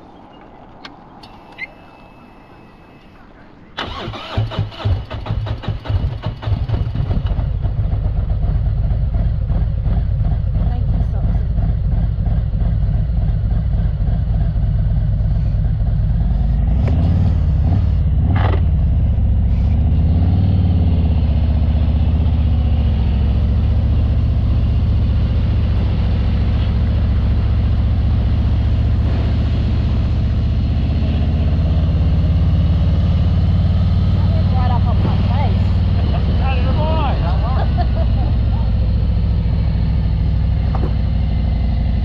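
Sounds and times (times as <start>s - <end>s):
wind and road noise: 0.0s - 42.0s
motorcycle engine running: 3.8s - 42.0s.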